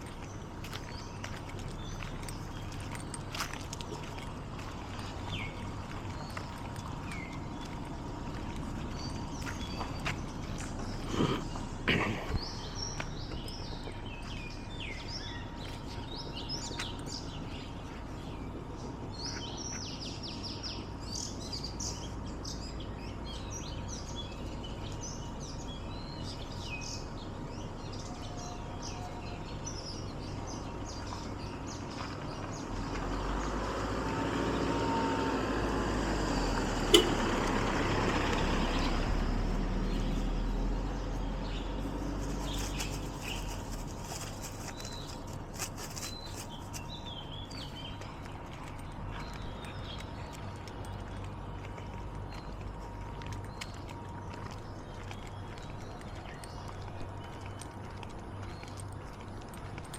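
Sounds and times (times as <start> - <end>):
small birds chirping: 0.0 - 34.9, 36.1 - 59.9.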